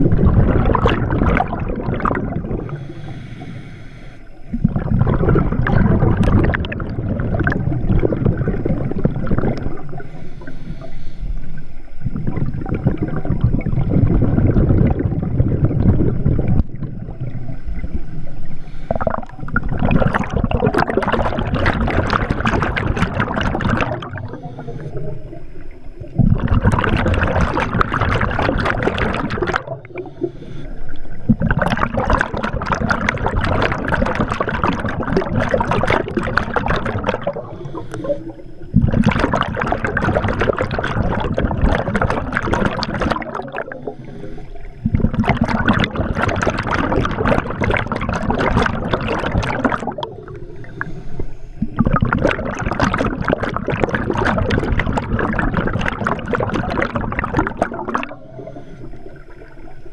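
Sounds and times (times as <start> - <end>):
scuba regulator exhaust bubbles: 0.0 - 59.9.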